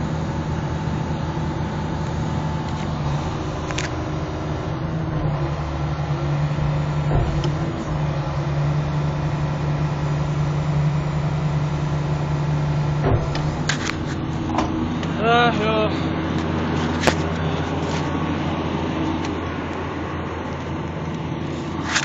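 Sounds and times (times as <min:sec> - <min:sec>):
diesel engine and hydraulics running: 0:00.0 - 0:22.0.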